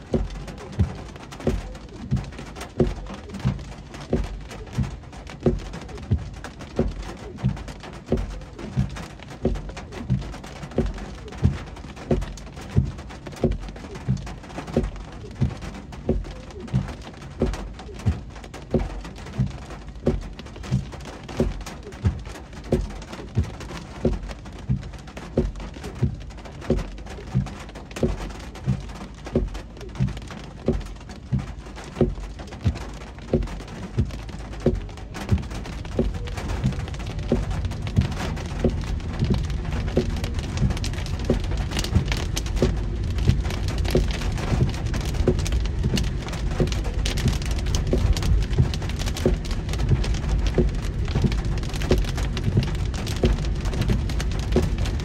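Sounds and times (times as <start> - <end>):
heavy rain on a car: 0.0 - 55.0
windscreen wipers thudding: 0.0 - 55.0.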